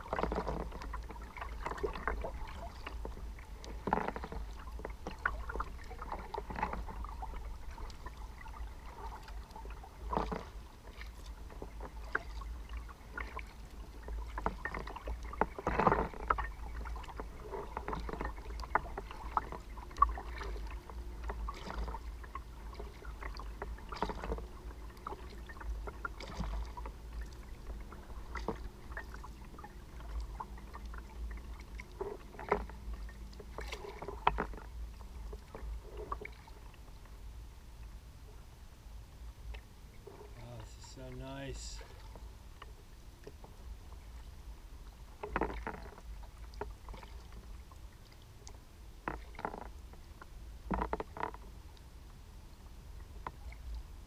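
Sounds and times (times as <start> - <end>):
low steady rumble: 0.0 - 54.0
paddle splashing in water: 0.0 - 54.0
water lapping at hull: 0.0 - 54.0.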